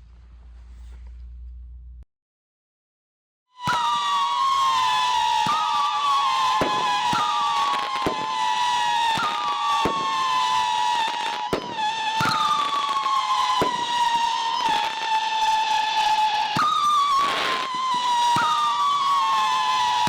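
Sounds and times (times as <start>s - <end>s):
firework shot bangs: 3.6s - 20.0s
whistling firework shells: 3.6s - 20.0s.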